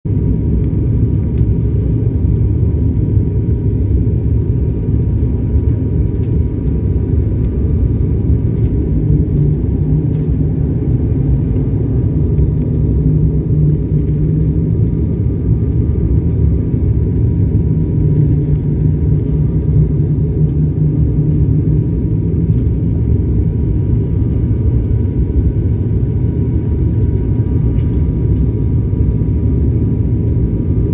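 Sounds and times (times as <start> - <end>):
aircraft cabin rumble: 0.0 - 30.9
faint constant hum: 0.1 - 30.9.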